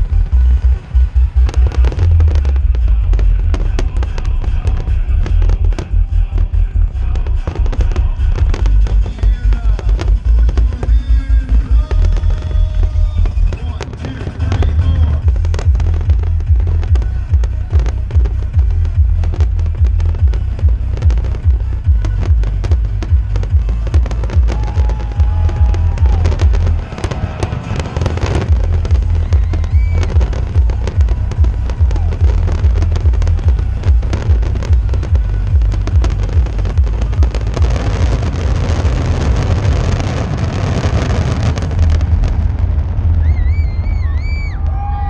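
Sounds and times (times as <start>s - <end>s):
deep rumble: 0.0s - 45.0s
firework crackle: 0.0s - 45.0s
fireworks bursting: 0.0s - 45.0s.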